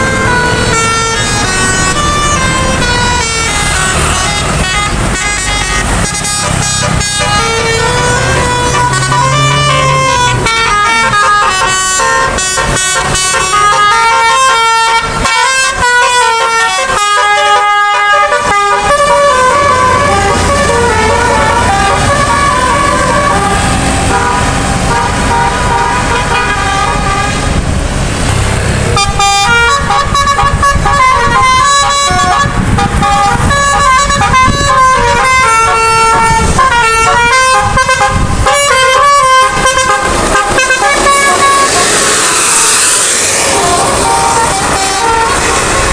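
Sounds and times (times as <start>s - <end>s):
musical air horn playing a tune: 0.0s - 27.6s, 28.9s - 45.9s.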